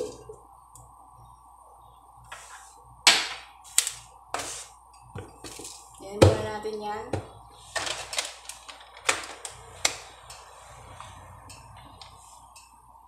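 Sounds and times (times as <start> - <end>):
faint low steady hum: 0.0 - 13.0.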